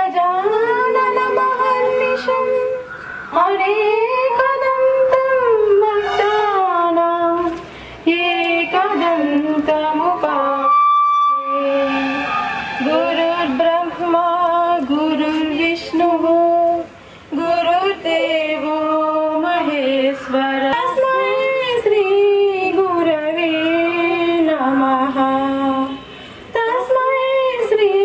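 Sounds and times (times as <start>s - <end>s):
women singing through a microphone: 0.0s - 28.0s.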